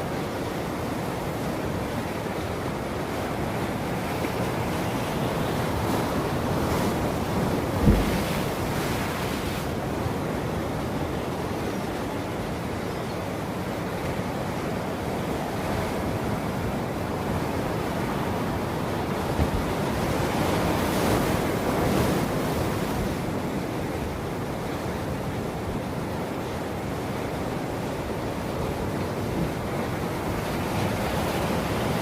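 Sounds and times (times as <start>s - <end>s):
ocean waves washing on shore: 0.0s - 32.0s.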